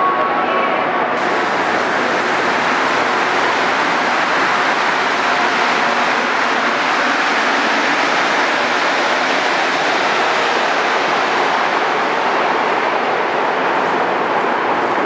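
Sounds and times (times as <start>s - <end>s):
train rushing noise: 0.0s - 15.0s.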